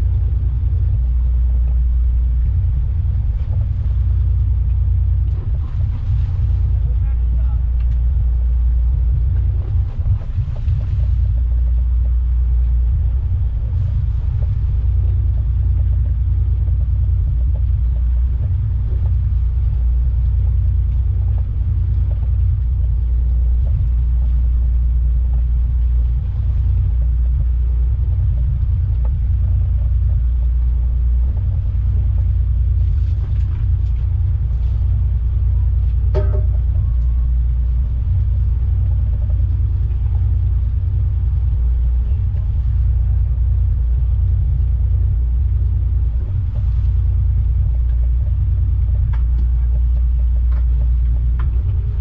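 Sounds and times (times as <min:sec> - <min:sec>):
boat engine rumbling: 0:00.0 - 0:52.0.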